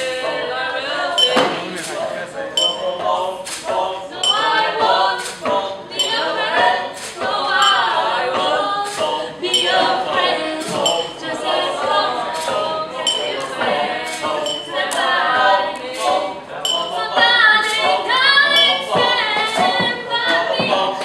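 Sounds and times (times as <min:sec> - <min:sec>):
voices singing a cappella: 0:00.0 - 0:21.0.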